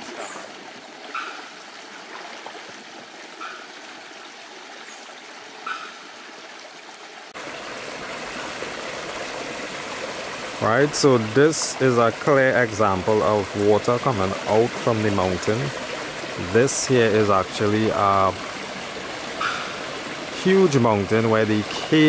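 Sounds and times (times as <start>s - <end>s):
water running over rocks: 0.0s - 22.0s.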